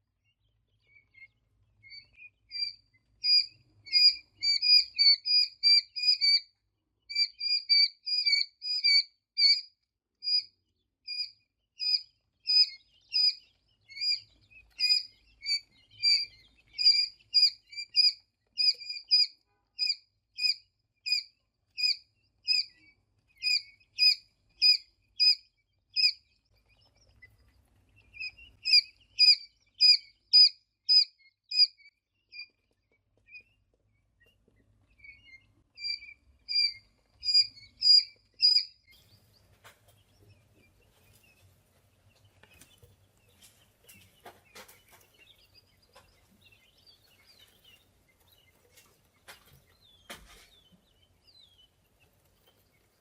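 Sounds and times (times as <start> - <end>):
tiny birds cheeping: 0.0 - 53.0.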